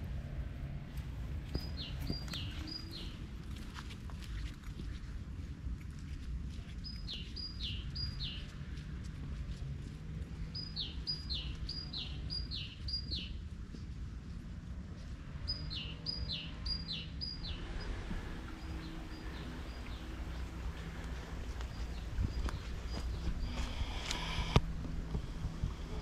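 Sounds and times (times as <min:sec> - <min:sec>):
wind rumble: 0:00.0 - 0:26.0.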